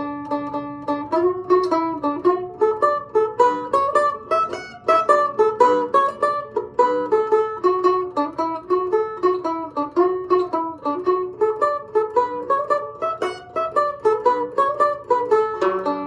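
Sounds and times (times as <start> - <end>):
mandolin plucked melody: 0.0 - 16.0.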